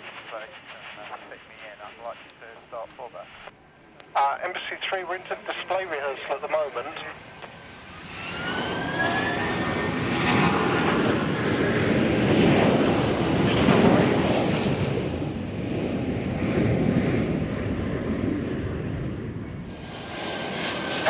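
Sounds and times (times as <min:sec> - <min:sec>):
aircraft passing: 0:00.1 - 0:21.0.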